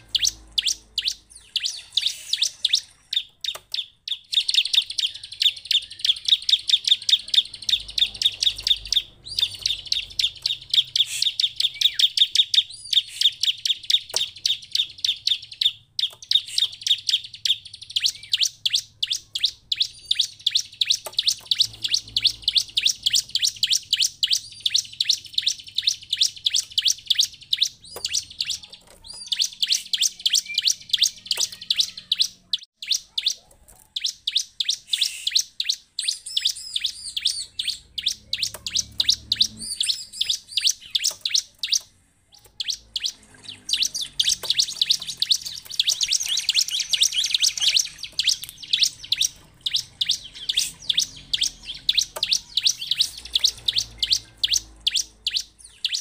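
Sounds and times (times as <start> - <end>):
bird chirping rapidly: 0.0 - 56.0.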